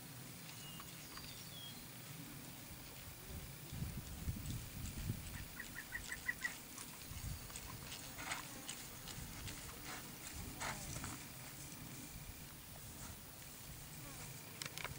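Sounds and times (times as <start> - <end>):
hooves on grass: 0.0 - 14.9.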